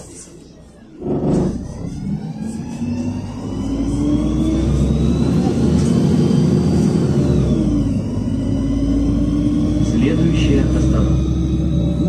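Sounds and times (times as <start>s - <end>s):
bus engine running: 0.0s - 12.0s
high driveline whine: 0.0s - 12.0s.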